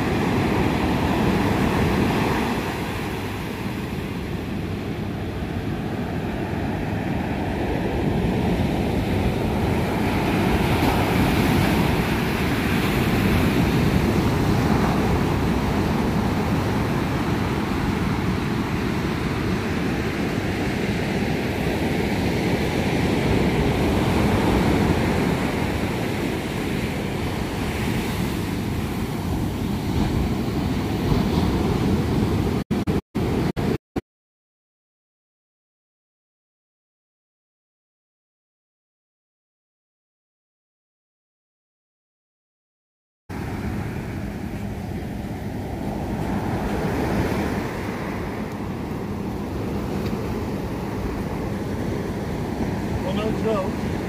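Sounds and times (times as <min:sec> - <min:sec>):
ocean surf breaking on sand: 0:00.0 - 0:33.8, 0:43.3 - 0:54.0.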